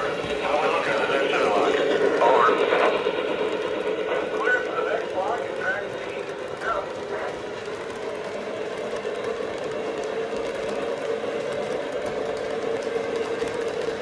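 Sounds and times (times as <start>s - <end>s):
model train wheels rumbling: 0.0s - 14.0s.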